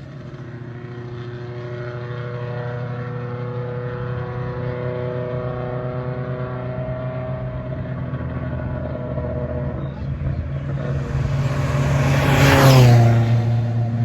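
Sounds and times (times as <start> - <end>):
other engines running: 0.0 - 14.0
racing car engine passing by: 0.2 - 14.0.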